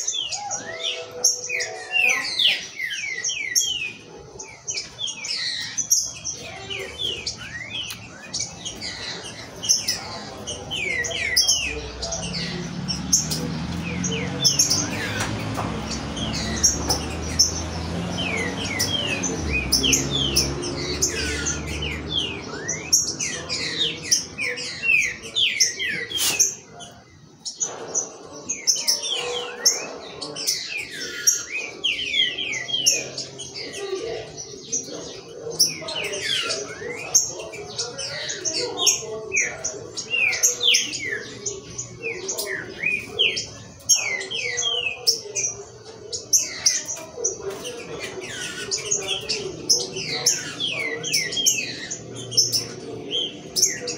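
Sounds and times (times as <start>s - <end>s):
birds whistling song: 0.0s - 53.9s.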